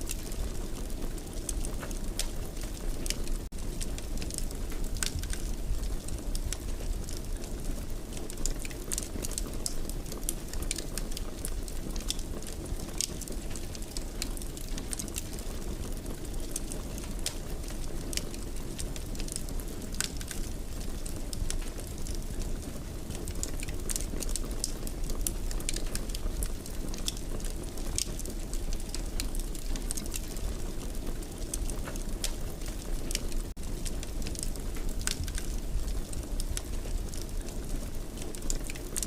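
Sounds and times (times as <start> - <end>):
fire pops and snaps: 0.0 - 39.0
wood fire burning: 0.0 - 39.0.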